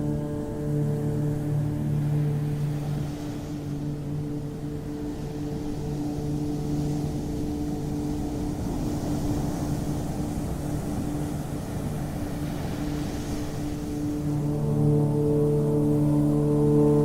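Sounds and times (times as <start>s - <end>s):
low droning hum: 0.0s - 17.0s
ocean surf washing in: 0.0s - 17.0s.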